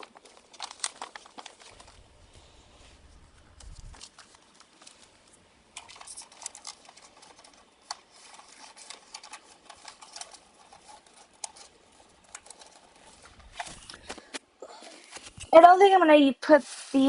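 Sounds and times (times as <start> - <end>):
crinkly packaging crackling: 0.0 - 17.0.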